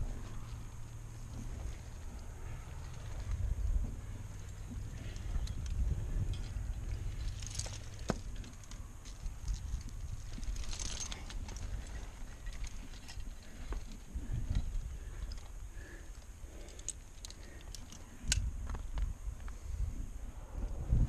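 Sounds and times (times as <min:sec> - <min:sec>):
climbing gear clicks and scrapes on rock: 0:00.0 - 0:19.8
wind rumbling on microphone: 0:00.0 - 0:21.0.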